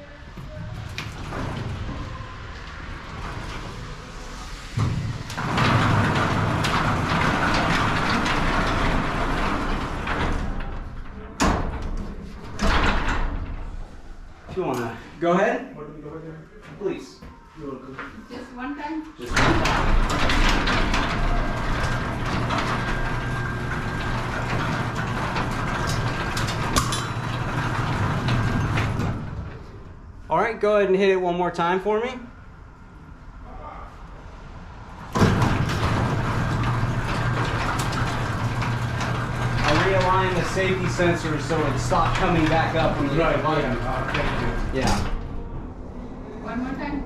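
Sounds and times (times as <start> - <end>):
garage door rolling and rattling: 0.0 - 15.2, 19.2 - 30.3, 34.0 - 47.0.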